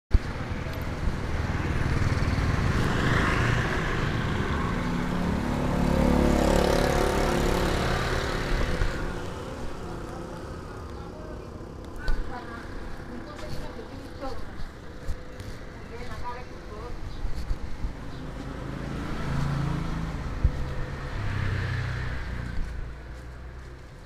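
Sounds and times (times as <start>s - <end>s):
street traffic: 0.1s - 24.0s.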